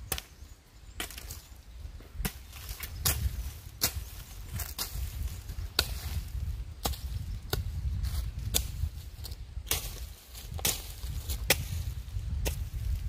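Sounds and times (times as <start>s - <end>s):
machete chopping brush: 2.2s - 13.0s.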